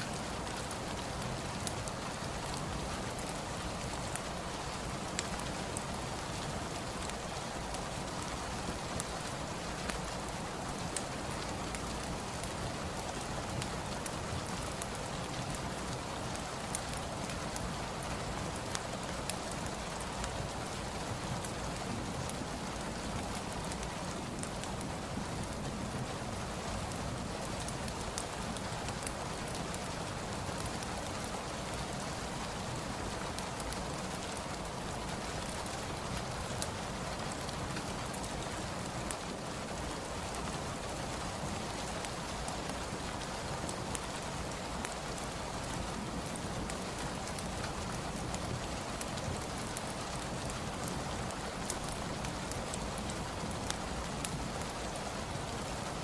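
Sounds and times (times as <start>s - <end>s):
fireplace crackling: 0.0s - 56.0s
steady rain falling: 0.0s - 56.0s.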